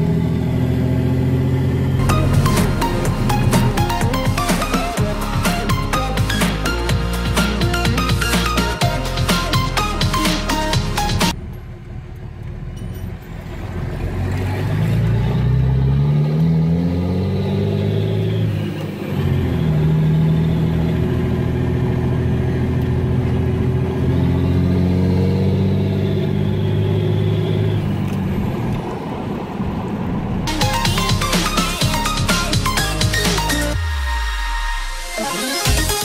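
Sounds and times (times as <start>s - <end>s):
truck diesel engine accelerating: 0.0s - 36.0s.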